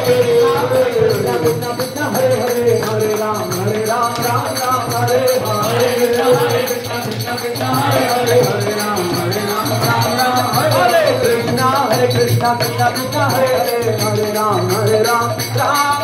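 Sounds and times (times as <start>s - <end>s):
clay drum rhythm: 0.0s - 16.0s
metallic jingling percussion: 0.0s - 16.0s
person singing chant melody: 0.0s - 16.0s.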